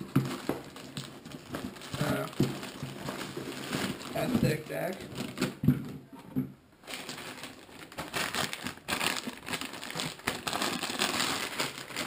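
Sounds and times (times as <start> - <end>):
packaging crinkling and rustling: 0.0 - 5.7, 6.8 - 12.0.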